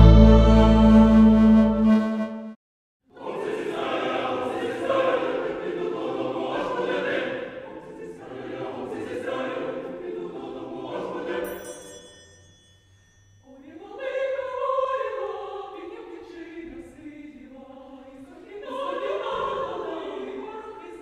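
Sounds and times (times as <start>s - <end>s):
choir singing: 0.0s - 2.5s, 3.1s - 11.8s, 13.4s - 21.0s.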